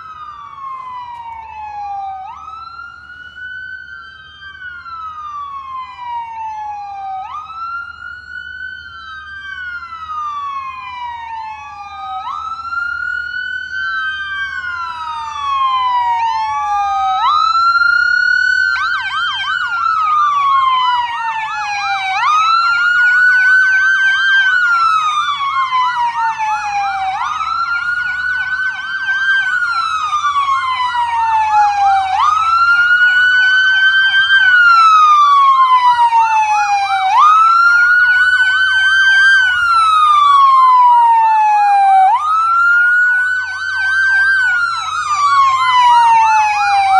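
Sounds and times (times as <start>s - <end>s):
siren fast yelp: 0.0s - 46.9s
siren wailing: 0.0s - 46.9s.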